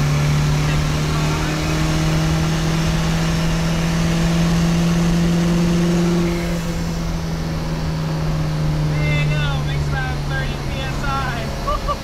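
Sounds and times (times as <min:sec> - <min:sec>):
diesel car engine pulling hard: 0:00.0 - 0:12.0.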